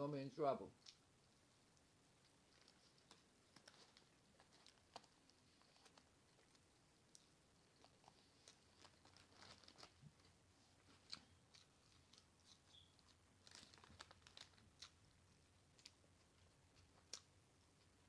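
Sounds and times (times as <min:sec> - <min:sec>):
close-up chewing: 0:00.8 - 0:18.0.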